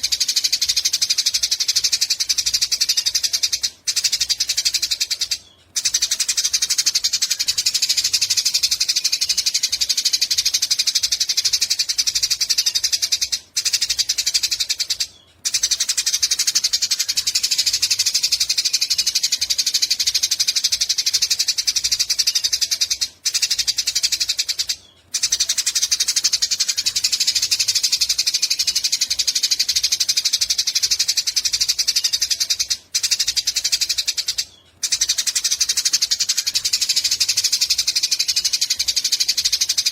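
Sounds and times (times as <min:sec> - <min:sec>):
sparrow chattering trills: 0:00.0 - 0:39.9.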